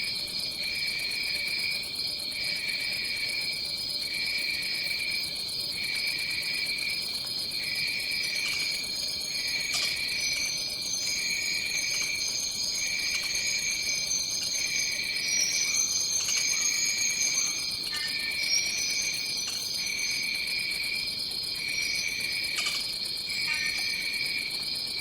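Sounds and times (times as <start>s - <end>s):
high insect drone: 0.0s - 25.0s
high insect trill: 0.0s - 25.0s
low pulsing insect trill: 0.0s - 25.0s.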